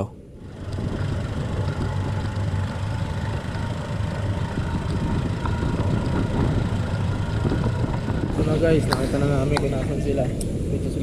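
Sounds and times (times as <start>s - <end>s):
road and wind noise: 0.0s - 11.0s
motorcycle engine running: 0.2s - 10.6s.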